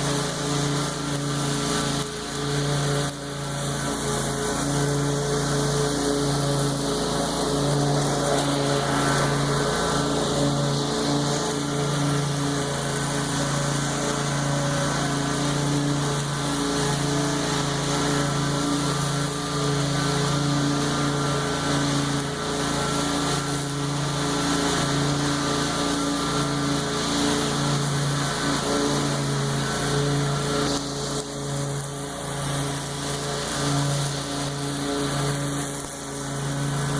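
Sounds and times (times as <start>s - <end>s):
lawn mower engine cutting grass: 0.0s - 36.9s.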